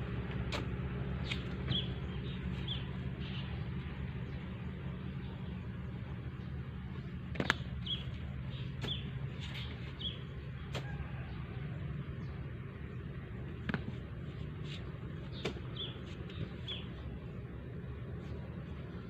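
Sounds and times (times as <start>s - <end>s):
steady low drone: 0.0s - 19.0s.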